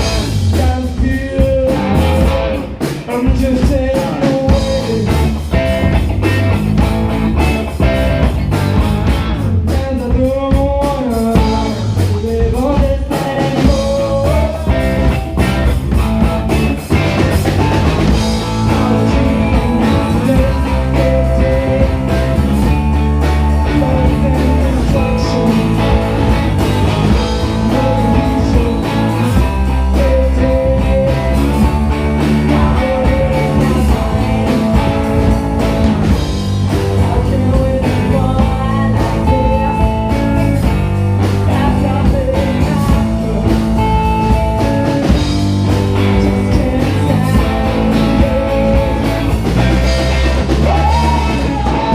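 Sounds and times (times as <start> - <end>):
live band playing blues-rock: 0.0 - 51.9.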